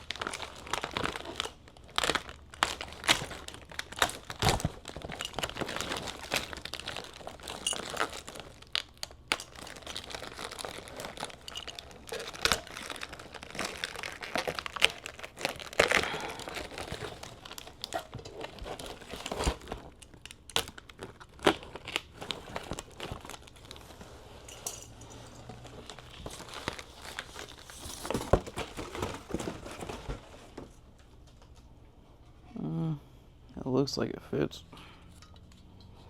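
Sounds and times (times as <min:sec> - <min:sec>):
rustling and crinkling: 0:00.0 - 0:32.4.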